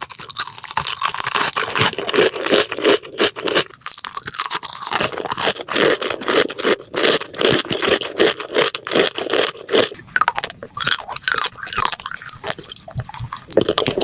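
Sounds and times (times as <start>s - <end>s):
mouth chewing and crunching food: 0.0s - 14.0s.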